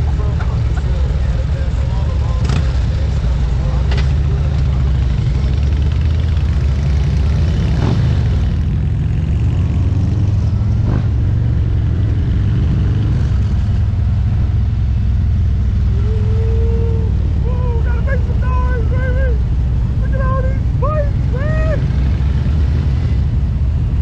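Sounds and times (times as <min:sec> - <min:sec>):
motorcycle engine rumbling: 0:00.0 - 0:24.0.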